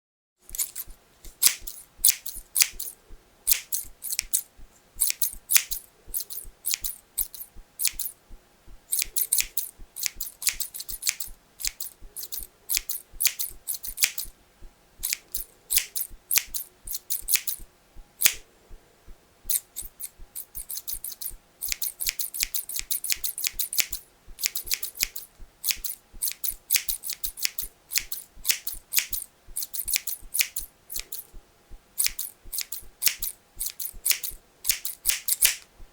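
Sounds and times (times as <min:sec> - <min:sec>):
scissors snipping hair: 0:00.5 - 0:08.2, 0:08.9 - 0:14.3, 0:15.0 - 0:18.4, 0:19.5 - 0:31.4, 0:32.0 - 0:35.7.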